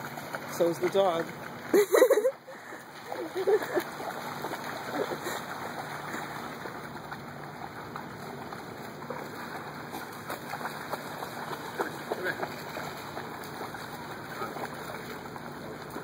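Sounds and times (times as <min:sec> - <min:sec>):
splashing through shallow water: 0:00.0 - 0:16.0.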